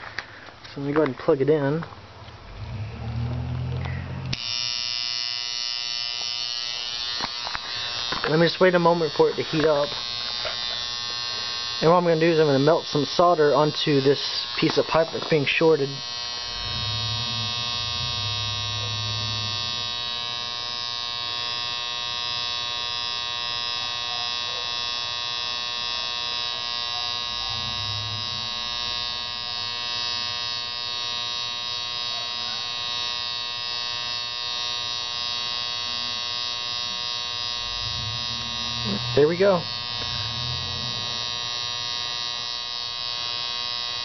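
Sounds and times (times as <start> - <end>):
transformer buzzing loudly: 1.6 - 44.0.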